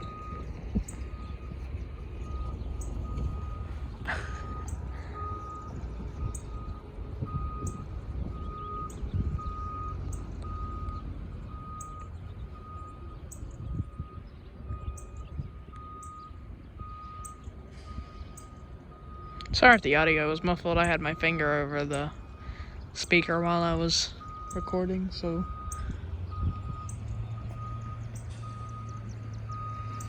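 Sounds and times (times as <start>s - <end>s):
backup alarm beeping: 0.0s - 30.0s
low diesel engine rumble: 0.0s - 30.0s.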